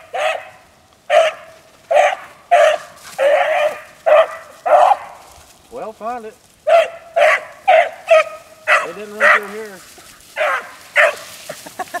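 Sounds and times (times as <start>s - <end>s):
dogs barking: 0.0s - 5.3s, 6.6s - 11.6s.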